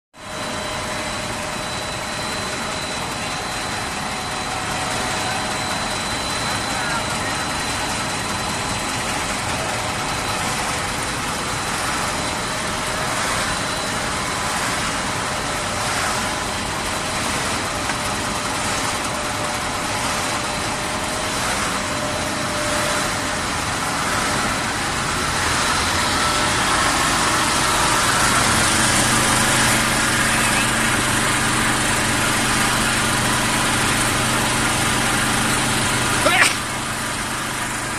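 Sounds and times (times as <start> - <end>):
factory machinery running: 0.2 - 37.9.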